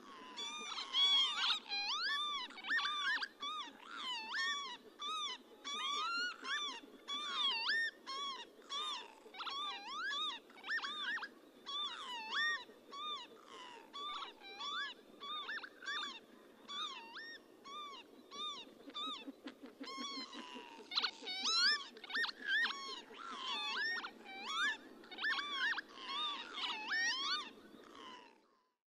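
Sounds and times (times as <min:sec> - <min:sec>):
lapwings calling: 0:00.0 - 0:28.1.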